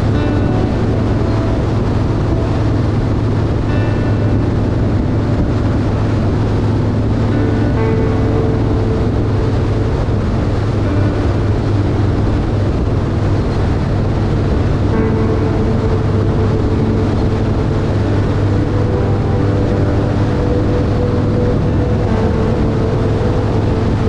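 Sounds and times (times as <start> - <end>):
motorcycle engine drone: 0.0 - 24.0
wind and road noise: 0.0 - 24.0.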